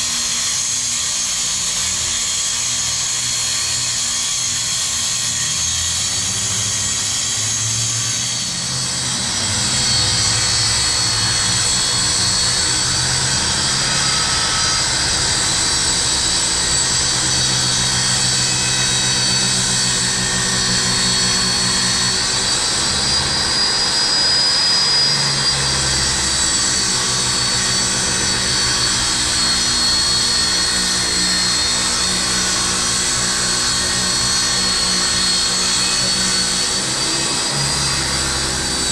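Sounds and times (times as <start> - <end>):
circular saw cutting plywood: 0.0 - 38.9.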